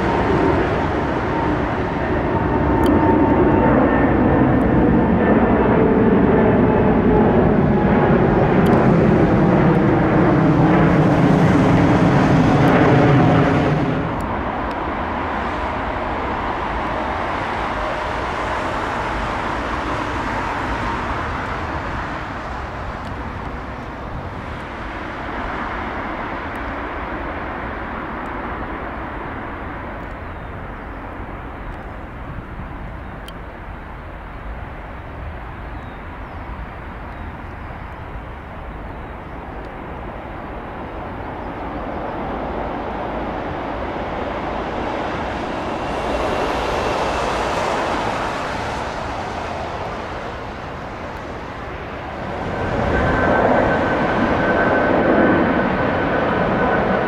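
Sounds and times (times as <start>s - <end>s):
jet airliner engines droning: 0.0s - 57.0s.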